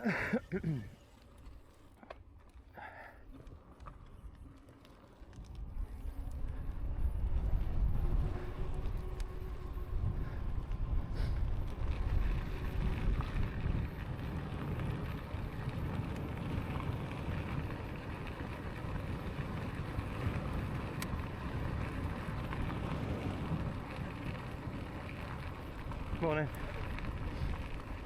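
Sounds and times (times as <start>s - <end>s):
rumble of tyres on road: 0.0s - 28.0s
wind buffeting microphone: 5.2s - 28.0s.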